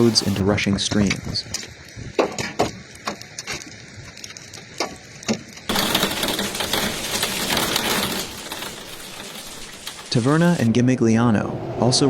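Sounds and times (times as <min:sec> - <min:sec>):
torrential rain hissing: 0:00.0 - 0:10.8.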